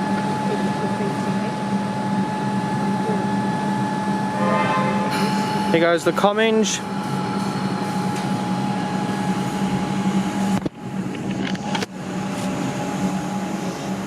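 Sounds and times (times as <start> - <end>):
electric train hum and rumble: 0.0 - 14.0.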